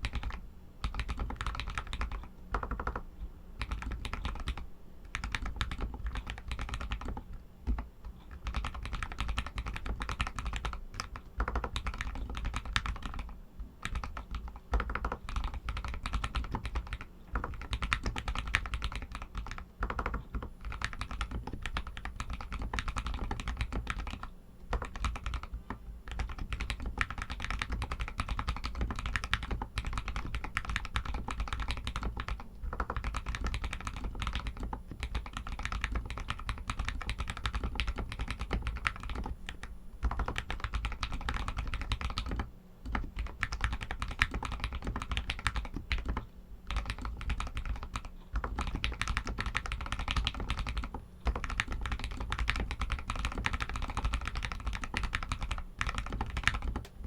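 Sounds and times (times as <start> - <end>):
fast typing on mechanical keyboard: 0.0 - 56.9.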